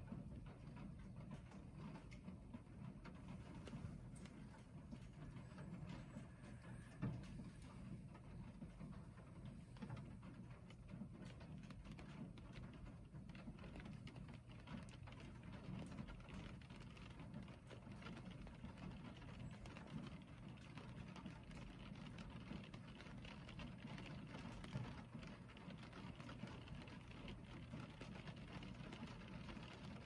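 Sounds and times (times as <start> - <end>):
rain on car roof and glass: 0.0 - 30.0
raindrop ticks: 0.0 - 30.0.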